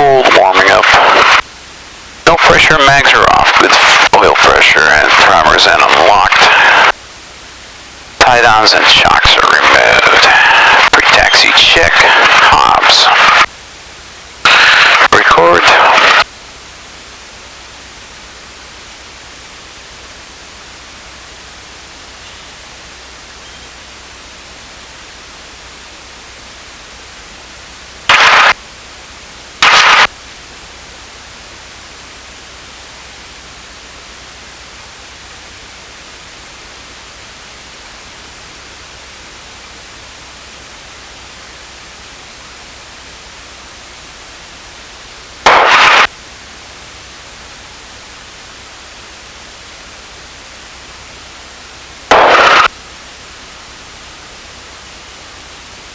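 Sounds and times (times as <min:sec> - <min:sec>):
intercom static hiss: 0:00.0 - 0:16.3, 0:17.6 - 0:28.6, 0:29.4 - 0:31.2, 0:31.8 - 0:46.2, 0:47.0 - 0:55.9.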